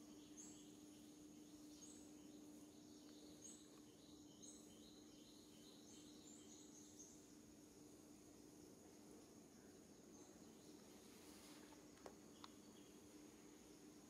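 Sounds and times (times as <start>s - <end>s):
low steady hum: 0.0s - 14.0s
steady high-pitched whine: 0.0s - 14.0s.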